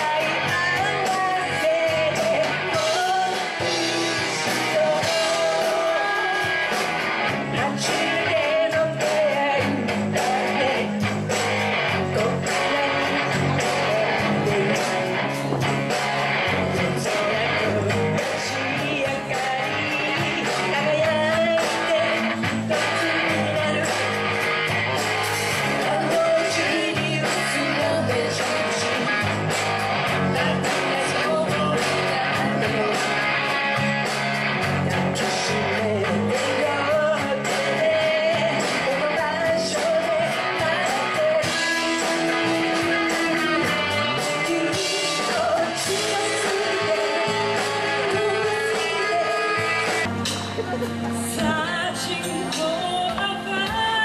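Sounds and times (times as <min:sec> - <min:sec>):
drums: 0:00.0 - 0:54.0
electric guitar: 0:00.0 - 0:54.0
woman singing lead: 0:00.0 - 0:54.0.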